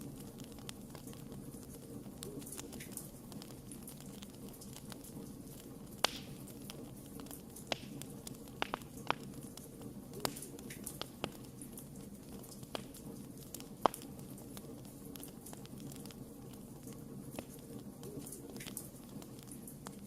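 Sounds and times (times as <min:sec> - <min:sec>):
campfire crackling and popping: 0:00.0 - 0:20.0
hiss and rumble of flame: 0:00.0 - 0:20.0.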